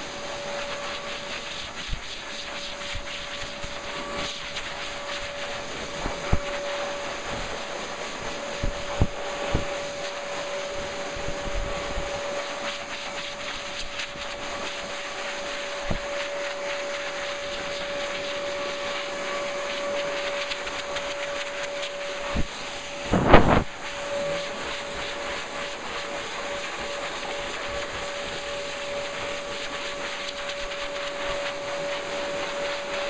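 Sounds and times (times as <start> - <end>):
blow dryer rushing and whining: 0.0 - 33.0.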